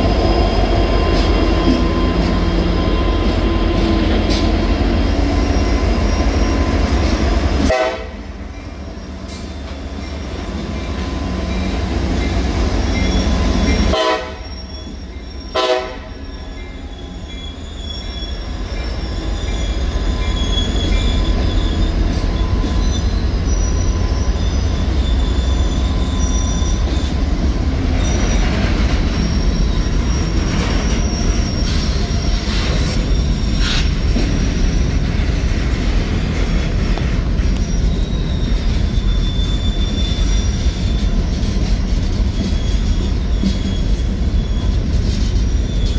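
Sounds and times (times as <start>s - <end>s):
high wheel squeals: 0.0s - 7.6s, 8.6s - 34.9s, 37.4s - 45.9s
diesel locomotive passing: 0.0s - 45.9s
train wheels rumbling on rail: 0.0s - 45.9s.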